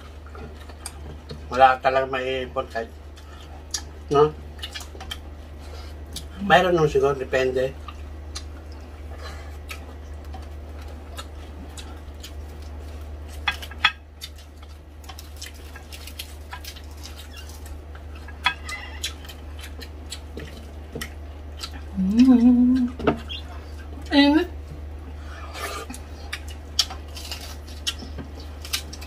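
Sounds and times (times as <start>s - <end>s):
crispy food crackling and chewing: 0.0s - 29.0s
steady low hum: 0.0s - 29.0s.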